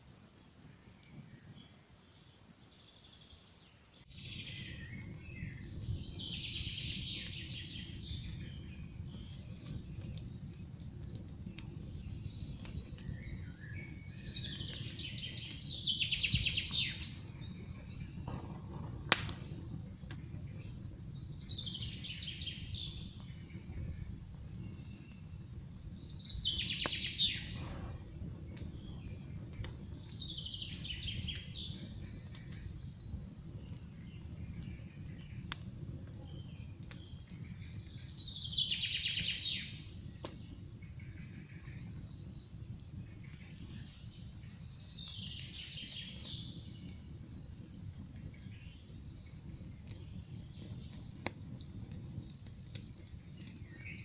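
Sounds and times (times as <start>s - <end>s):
songbird singing: 0.4s - 54.0s
campfire crackling: 4.0s - 54.0s.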